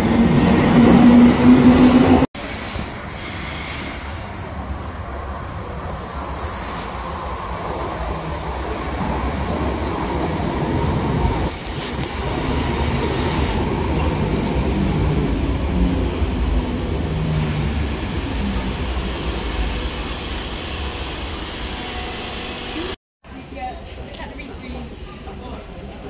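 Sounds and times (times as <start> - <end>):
wheels rumbling on rail: 0.0 - 23.0.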